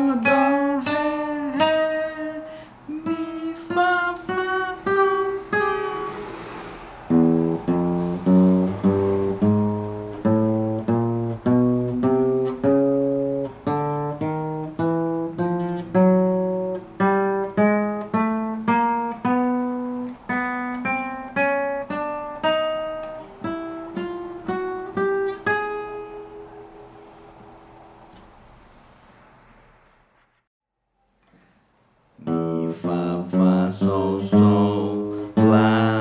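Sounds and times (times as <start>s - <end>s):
acoustic guitar plucked notes: 0.0s - 27.3s, 32.2s - 36.0s.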